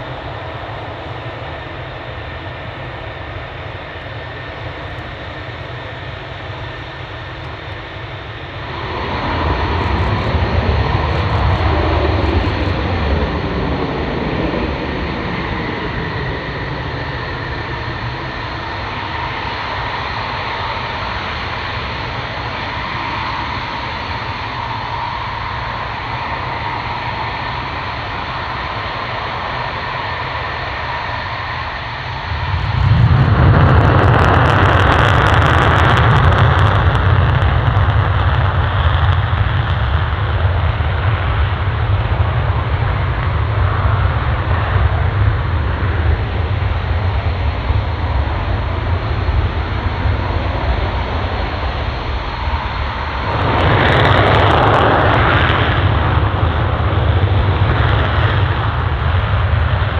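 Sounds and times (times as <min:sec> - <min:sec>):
jet afterburner rumble and crackle: 0:00.0 - 0:59.9
jet engine whine: 0:00.0 - 0:59.9.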